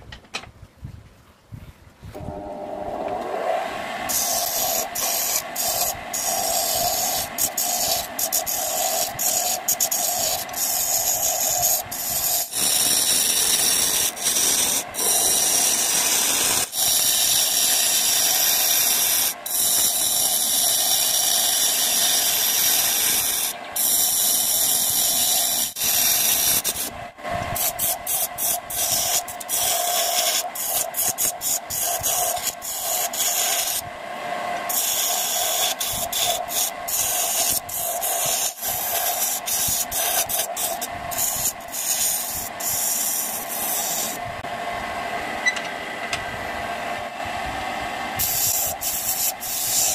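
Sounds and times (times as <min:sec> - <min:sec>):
lathe running hum: 0:02.2 - 0:26.9, 0:27.6 - 0:49.9
chisel scraping wood on lathe: 0:04.1 - 0:26.9, 0:27.6 - 0:33.8, 0:34.7 - 0:44.2, 0:48.2 - 0:49.9.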